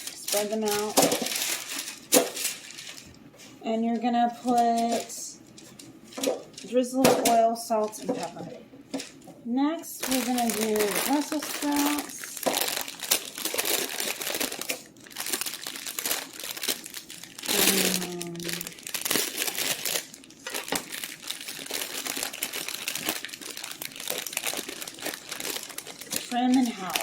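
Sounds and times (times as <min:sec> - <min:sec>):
packaging crinkling: 0:00.0 - 0:03.2, 0:04.4 - 0:06.7, 0:10.0 - 0:27.0.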